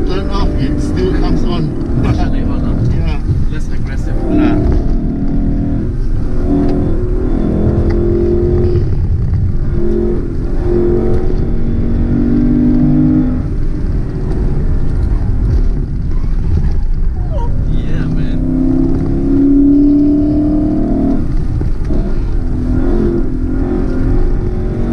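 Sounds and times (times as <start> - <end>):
car engine revving through gears: 0.0 - 24.9.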